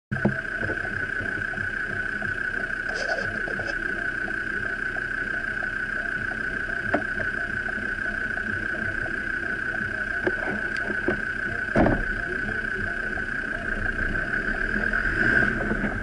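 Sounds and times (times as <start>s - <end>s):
high whine: 0.1s - 16.0s
vehicle engine running: 0.1s - 16.0s.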